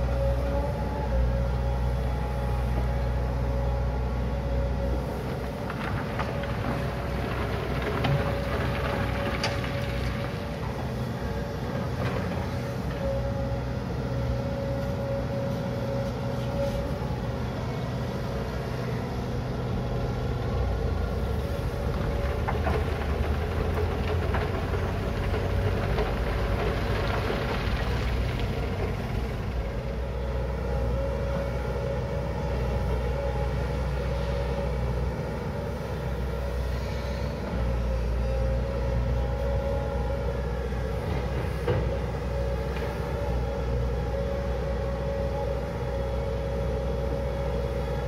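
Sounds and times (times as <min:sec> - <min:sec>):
excavator engine and hydraulics: 0:00.0 - 0:48.0.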